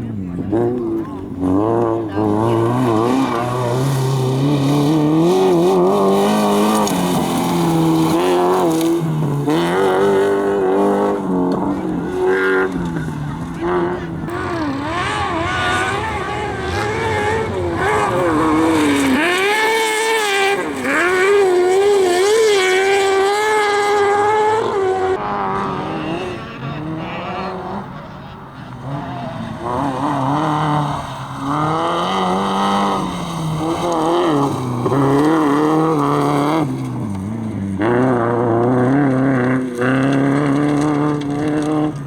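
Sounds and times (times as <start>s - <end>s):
racing engine revving hard: 0.4s - 42.0s.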